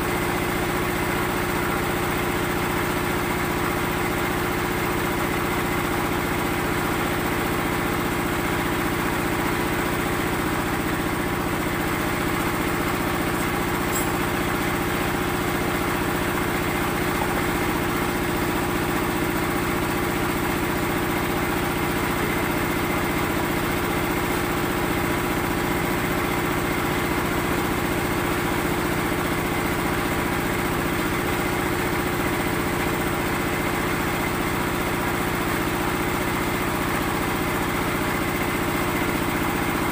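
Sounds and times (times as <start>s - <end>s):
small engine running: 1.3s - 39.9s.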